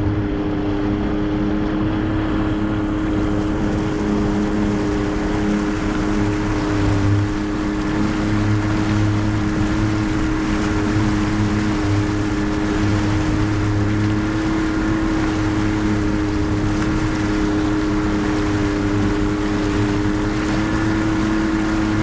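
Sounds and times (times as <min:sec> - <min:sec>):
outboard motor running: 0:00.0 - 0:22.0
water rushing along hull: 0:00.0 - 0:22.0.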